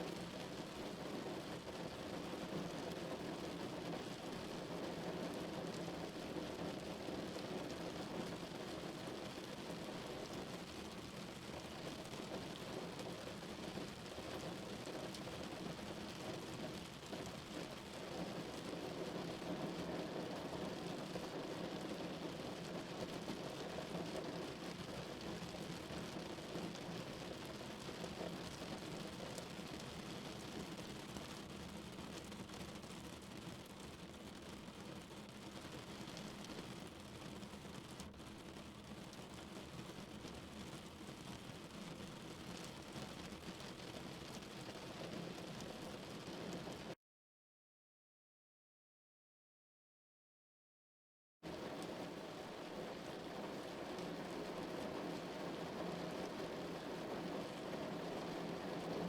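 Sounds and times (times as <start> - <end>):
rain on car body and windows: 0.0 - 47.0, 51.5 - 59.0.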